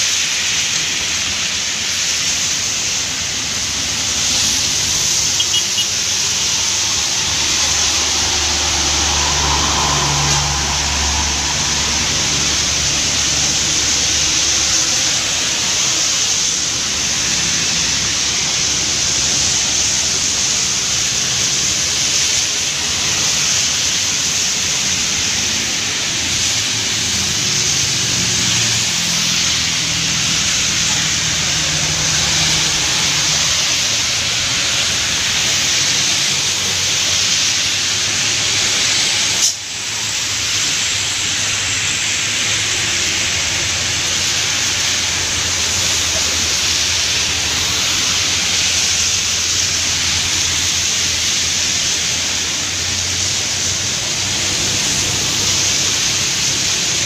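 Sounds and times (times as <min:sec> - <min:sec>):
heavy rain hissing: 0:00.0 - 0:57.0
traffic on wet road: 0:00.0 - 0:57.0.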